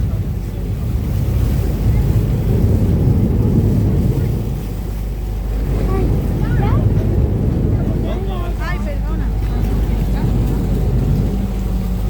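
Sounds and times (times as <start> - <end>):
low engine rumble: 0.0 - 12.0
water rushing past: 0.0 - 12.0
wind buffeting microphone: 0.0 - 12.0.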